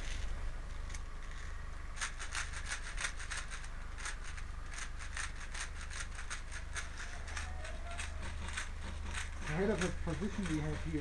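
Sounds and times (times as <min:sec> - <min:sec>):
scraping rustling strokes: 0:00.0 - 0:11.0.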